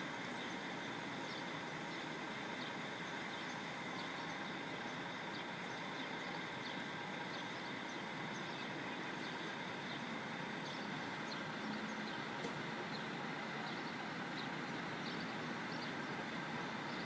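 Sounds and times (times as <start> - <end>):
diesel engine idling: 0.1 - 17.0.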